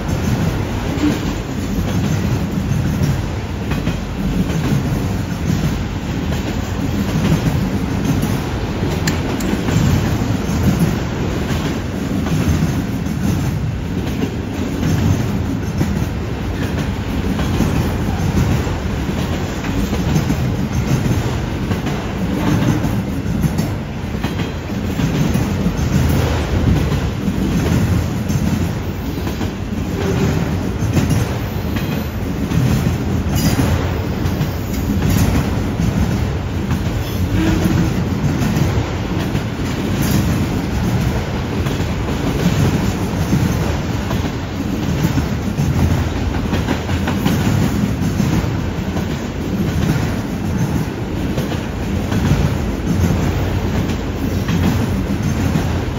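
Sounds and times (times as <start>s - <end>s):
train wheels rumbling on rail: 0.0s - 55.9s
wheels clicking over rail joints: 0.0s - 55.9s.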